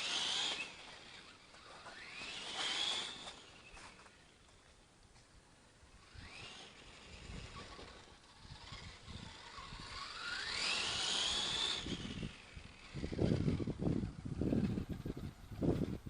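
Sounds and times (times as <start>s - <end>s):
electric motor whining: 0.0s - 4.6s, 5.9s - 16.0s.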